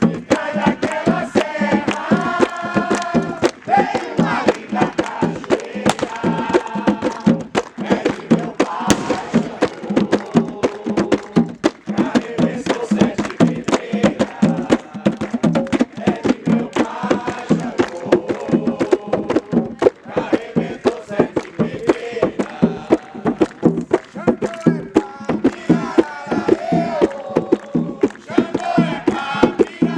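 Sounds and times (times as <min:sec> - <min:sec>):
group of voices chanting: 0:00.0 - 0:15.2, 0:15.8 - 0:23.4, 0:24.4 - 0:29.9
hand drums playing: 0:00.0 - 0:29.9.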